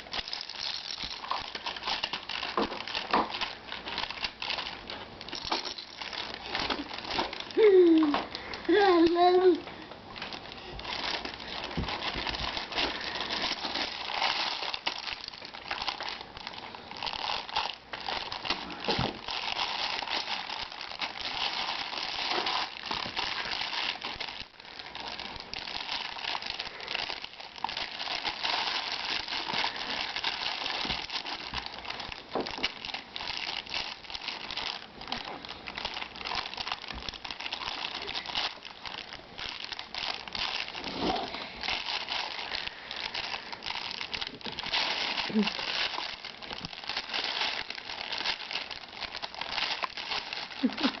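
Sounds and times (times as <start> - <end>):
plastic package crinkling: 0.0 - 51.0.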